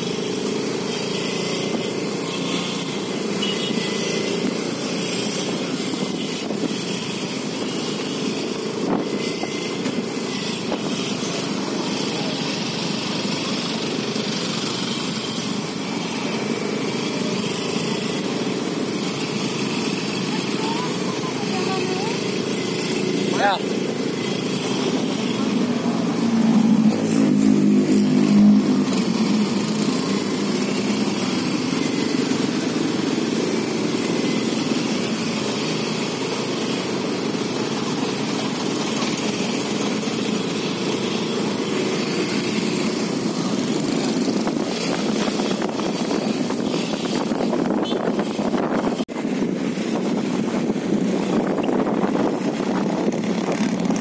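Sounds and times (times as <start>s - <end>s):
traffic engines: 0.0s - 54.0s.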